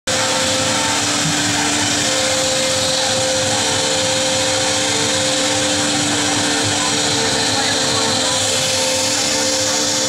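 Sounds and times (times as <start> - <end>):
cnc router spindle whine: 0.1 - 10.0.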